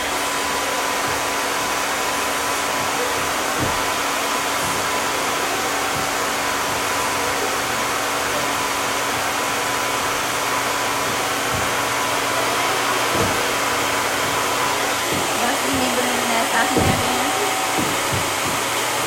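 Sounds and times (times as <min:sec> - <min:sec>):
blow dryer running: 0:00.0 - 0:19.0.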